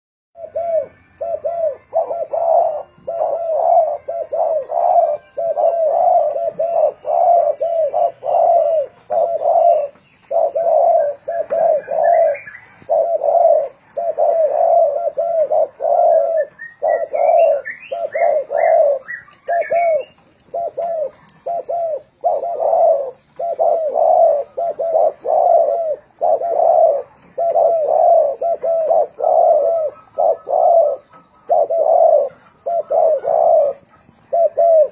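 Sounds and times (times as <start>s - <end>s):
doves cooing: 0.4s - 34.9s.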